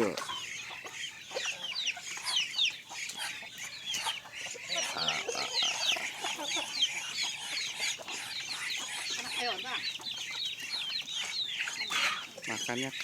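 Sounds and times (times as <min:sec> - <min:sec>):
chicken clucking: 0:00.0 - 0:13.0
chickens chirping: 0:00.0 - 0:13.0.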